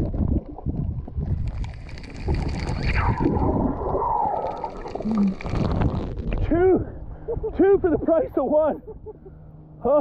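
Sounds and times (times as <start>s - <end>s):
muffled underwater rumble: 0.0s - 10.0s.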